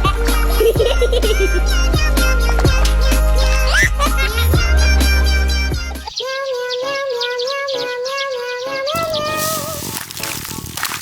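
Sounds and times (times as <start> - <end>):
synthesized singing voice: 0.0 - 9.8
upbeat electronic music: 0.0 - 10.6.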